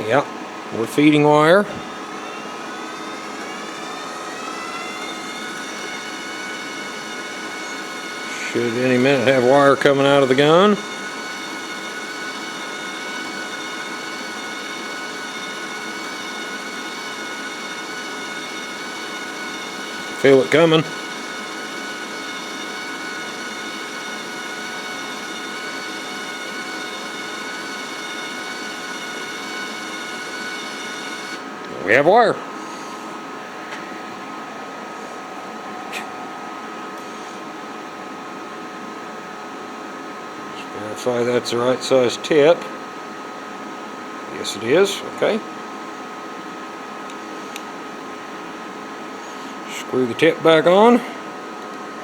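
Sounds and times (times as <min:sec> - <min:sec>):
wire feed motor whine: 0:00.0 - 0:52.0.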